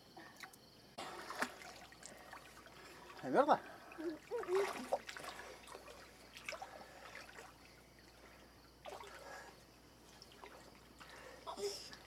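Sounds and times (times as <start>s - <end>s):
water trickling and lapping: 0.0s - 12.0s
small water splashes: 0.4s - 12.0s.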